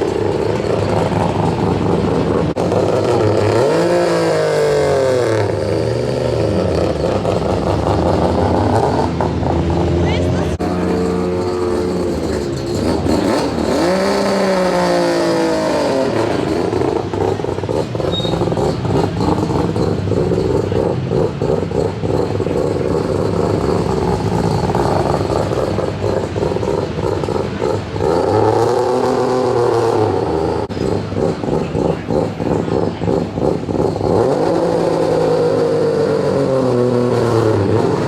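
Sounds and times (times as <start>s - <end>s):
engine revving: 0.0s - 38.0s
rotary engine idling: 0.0s - 38.0s.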